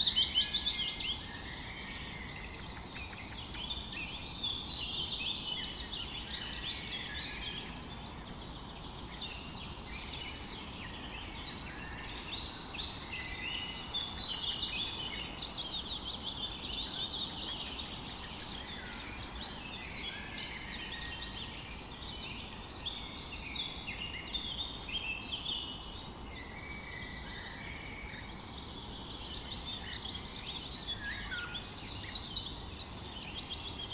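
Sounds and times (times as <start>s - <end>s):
faint background hiss: 0.0s - 33.9s
songbirds singing and chirping: 0.0s - 33.9s.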